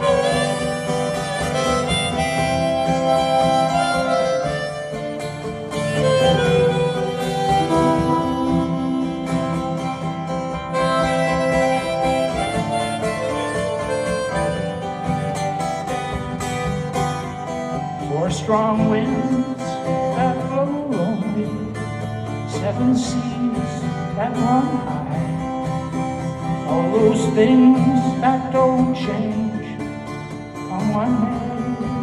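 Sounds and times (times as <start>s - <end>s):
harmonica playing: 0.0s - 32.0s
strummed acoustic guitar: 0.0s - 32.0s.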